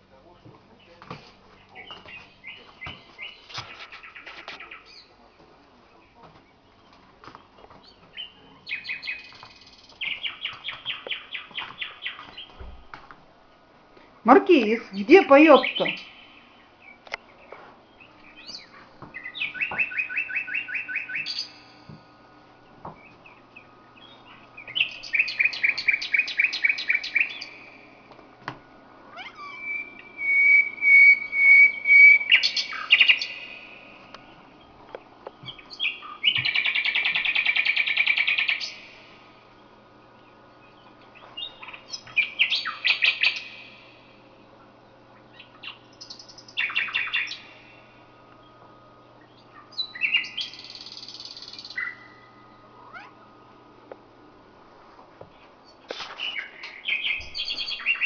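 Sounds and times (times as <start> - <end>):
nightingale singing: 1.6 - 5.3, 6.0 - 12.7, 14.5 - 21.9, 22.6 - 28.0, 29.1 - 39.1, 40.0 - 44.2, 45.1 - 48.6, 49.2 - 53.1, 55.6 - 58.0.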